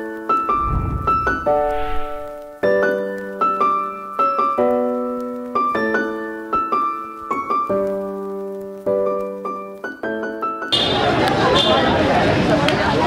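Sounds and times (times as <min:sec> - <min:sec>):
slow piano melody: 0:00.0 - 0:10.8.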